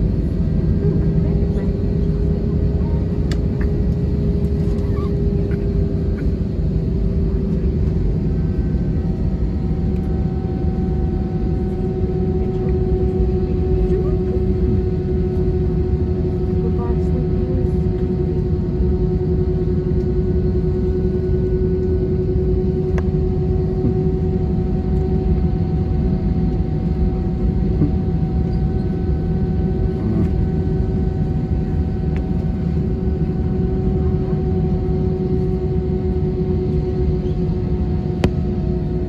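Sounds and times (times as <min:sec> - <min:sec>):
jet engine cabin drone: 0:00.0 - 0:39.0.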